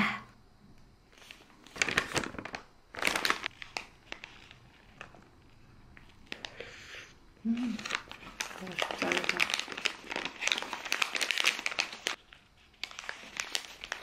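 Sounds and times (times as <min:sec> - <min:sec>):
paper wrapper crinkling: 0:01.1 - 0:06.8, 0:07.4 - 0:14.0.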